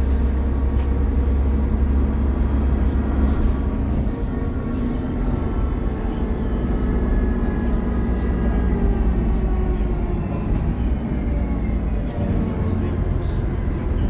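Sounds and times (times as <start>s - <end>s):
bus diesel engine with whine: 0.0s - 14.0s.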